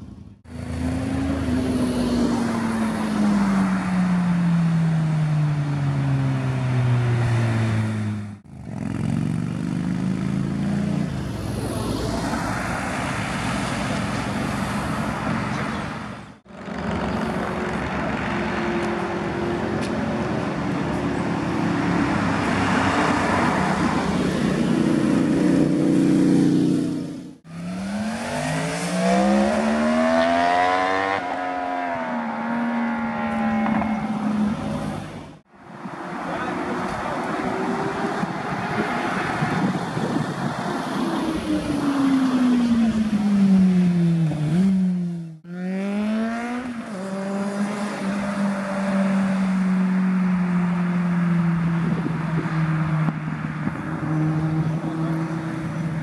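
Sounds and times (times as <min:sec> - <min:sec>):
motorcycles passing by: 0:00.5 - 0:56.0.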